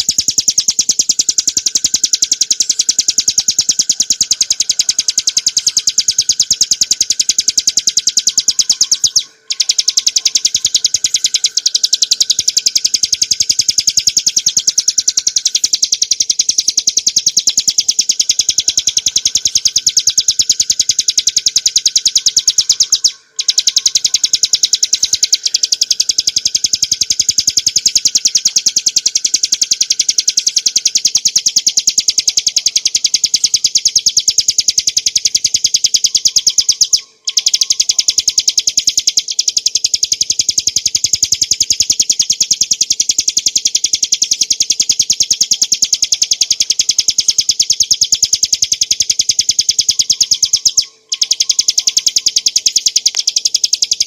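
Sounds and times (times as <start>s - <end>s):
bird high-pitched trill: 0.0s - 54.0s.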